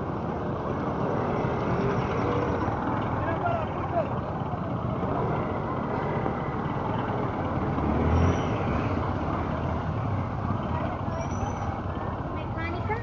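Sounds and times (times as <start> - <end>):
motorcycle and traffic noise: 0.0 - 13.0.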